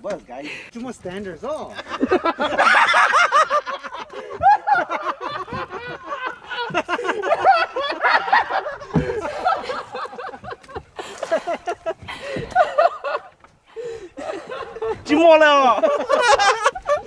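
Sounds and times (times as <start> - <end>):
people laughing: 1.6 - 17.0.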